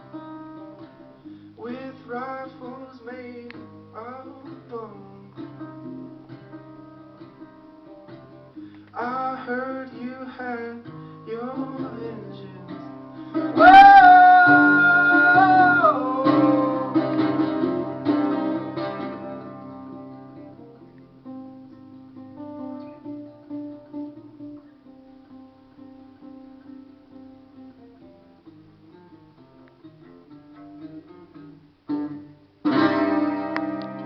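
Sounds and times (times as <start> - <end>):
acoustic guitar strumming and picking: 0.0 - 34.0.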